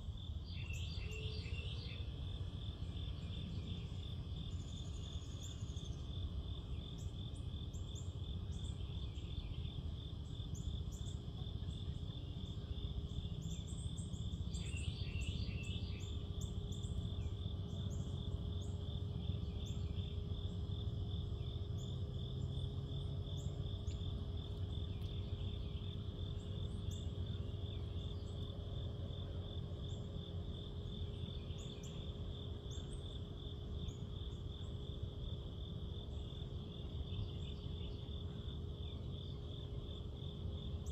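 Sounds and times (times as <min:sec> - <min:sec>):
crickets chirping: 0:00.0 - 0:40.9
low rumble and hum: 0:00.0 - 0:40.9
other insects chirping: 0:00.0 - 0:40.9.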